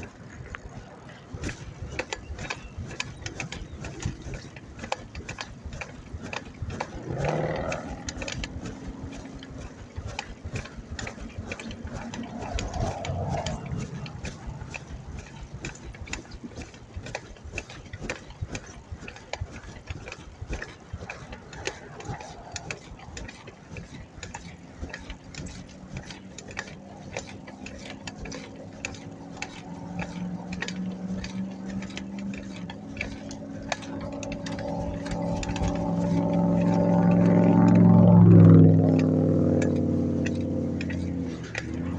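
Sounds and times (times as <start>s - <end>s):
bicycle freewheel ticking: 0.0s - 41.9s
vehicle engine hum: 0.0s - 41.9s.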